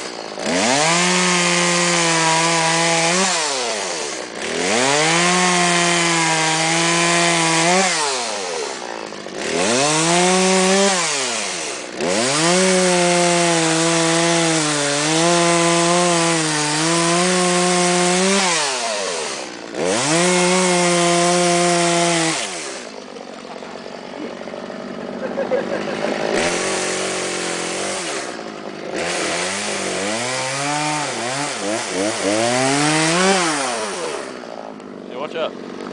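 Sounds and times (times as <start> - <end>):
chainsaw revving while carving wood: 0.0 - 35.9.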